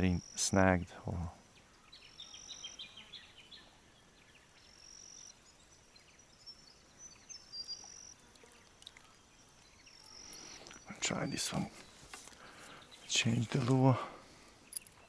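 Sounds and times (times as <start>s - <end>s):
insect buzzing: 1.5s - 15.0s.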